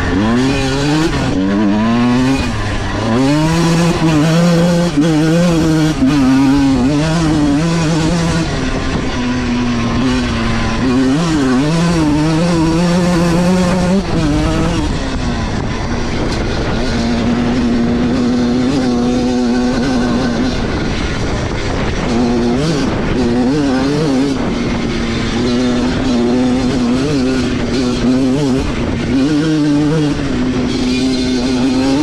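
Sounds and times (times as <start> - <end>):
two-stroke engine running hard: 0.0 - 32.0.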